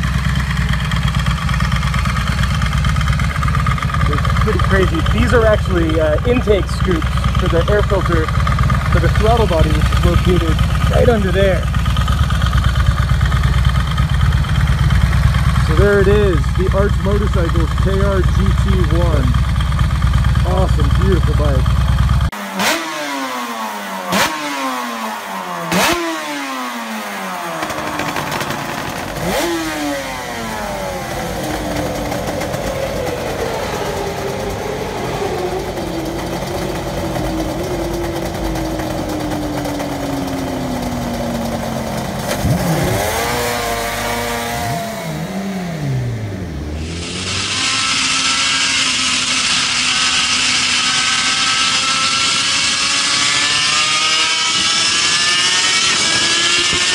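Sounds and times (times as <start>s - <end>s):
motorcycle engine at speed: 0.0s - 56.9s
race engine revving: 0.0s - 56.9s.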